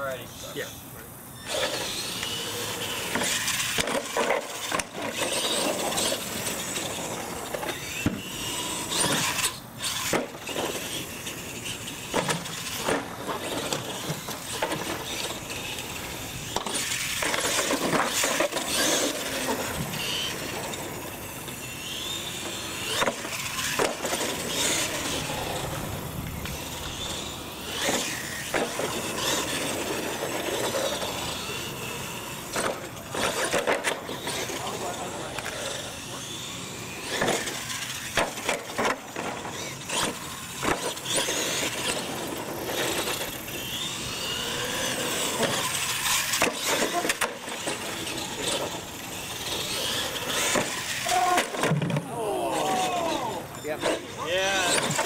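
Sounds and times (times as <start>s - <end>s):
toy truck motor whining: 0.3s - 55.0s.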